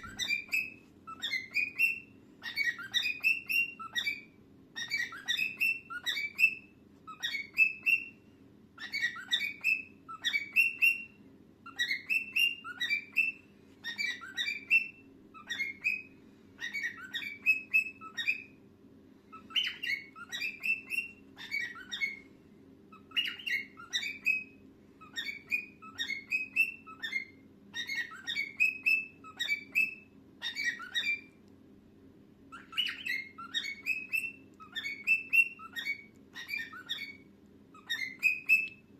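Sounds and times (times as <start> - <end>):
cockatiel chirping and whistling: 0.0 - 18.6, 19.3 - 31.4, 32.5 - 38.9.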